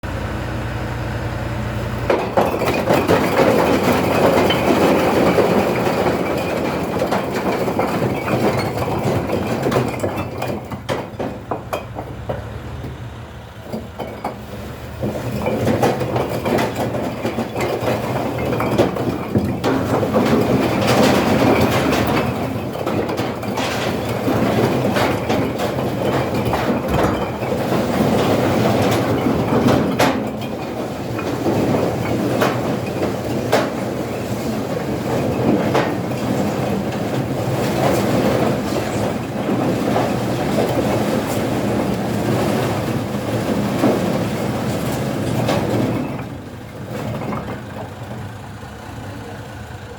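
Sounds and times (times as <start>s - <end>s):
tractor engine running: 0.0s - 49.9s
bricks clattering: 2.0s - 13.0s, 13.6s - 48.3s.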